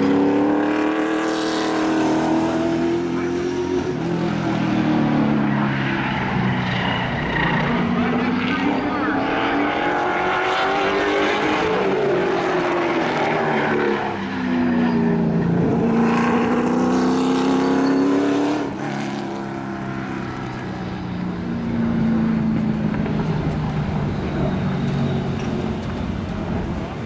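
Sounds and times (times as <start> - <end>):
race car engine running hard: 0.0 - 27.0.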